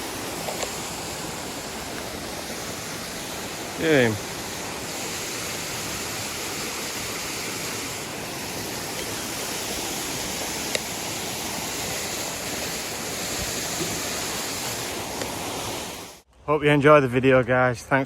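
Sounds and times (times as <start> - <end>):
running water rushing: 0.0 - 16.2.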